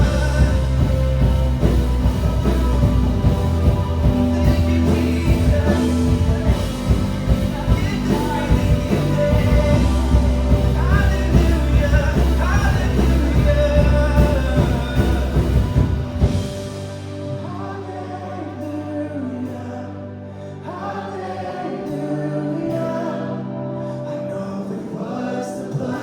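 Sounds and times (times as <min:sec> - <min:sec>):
person singing: 0:00.0 - 0:26.0
worship band playing: 0:00.0 - 0:26.0.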